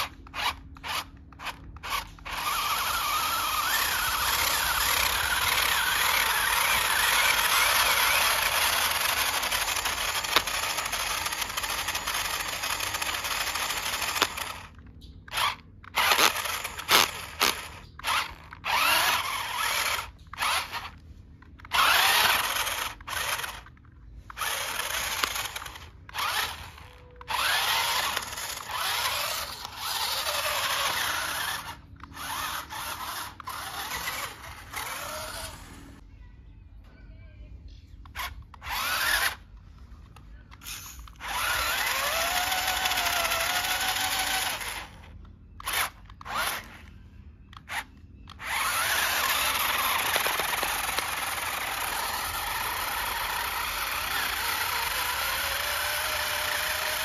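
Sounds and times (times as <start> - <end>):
toy electric motor whining: 0.0 - 36.0, 38.0 - 57.0.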